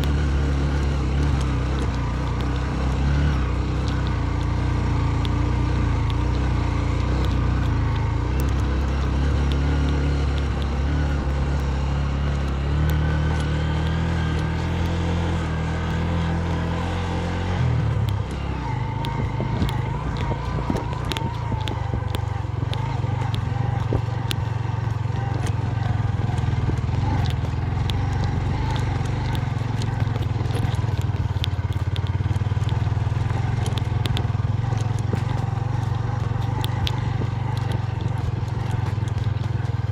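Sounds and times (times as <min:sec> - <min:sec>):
clicks and rattles: 0:00.0 - 0:39.9
motorcycle engine running: 0:00.0 - 0:39.9.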